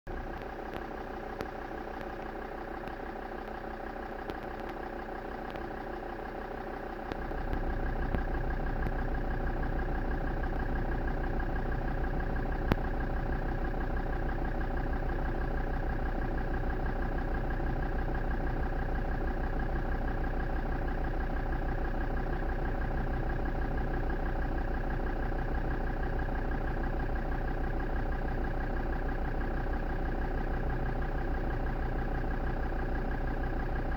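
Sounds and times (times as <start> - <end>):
diesel engine idling roughly: 0.1 - 33.9.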